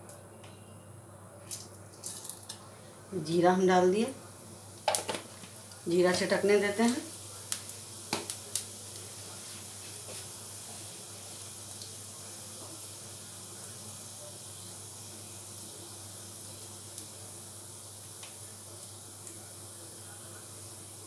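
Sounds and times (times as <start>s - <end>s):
seeds sizzling in hot oil: 1.4s - 21.0s.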